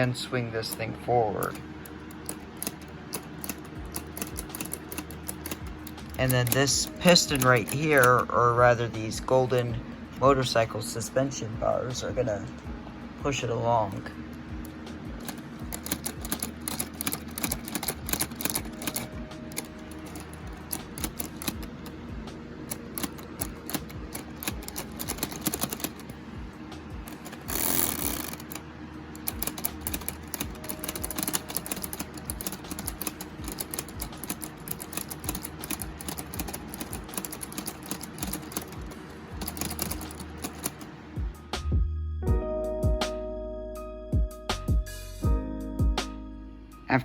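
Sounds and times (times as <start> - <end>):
quiet background music: 0.0 - 47.0.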